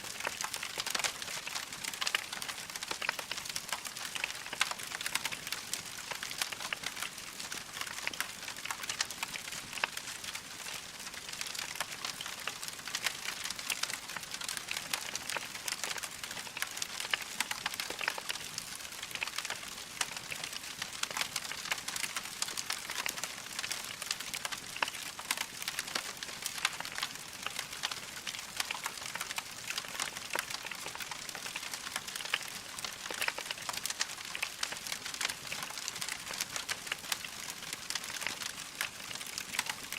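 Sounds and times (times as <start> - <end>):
logs crackling in fireplace: 0.1 - 39.9.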